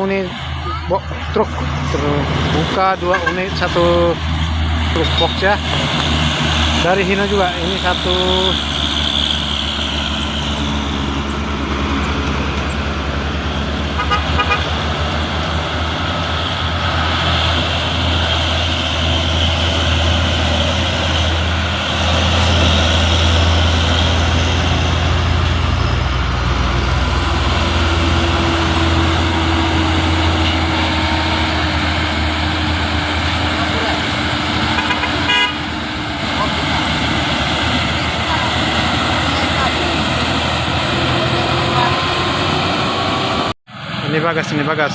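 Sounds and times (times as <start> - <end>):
diesel truck engines droning: 0.0 - 44.9
traffic noise: 0.0 - 44.9.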